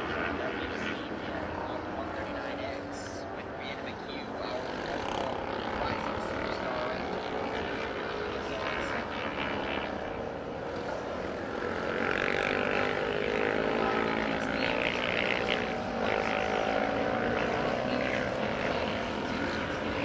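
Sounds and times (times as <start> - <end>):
distant racing motorcycle engines: 0.0 - 20.0.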